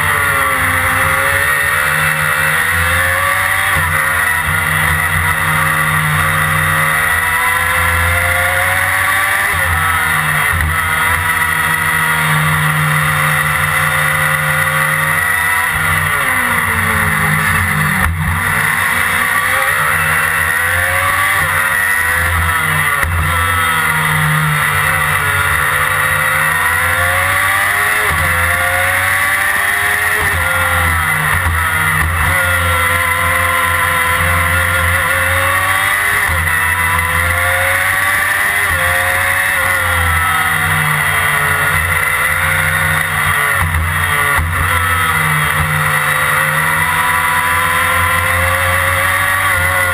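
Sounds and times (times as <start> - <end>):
racing engine revving: 0.0 - 49.9.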